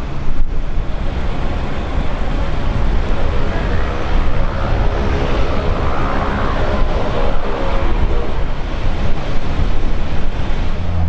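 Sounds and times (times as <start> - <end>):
faint steady whine: 0.0 - 11.0
jet engines rumbling: 0.0 - 11.0.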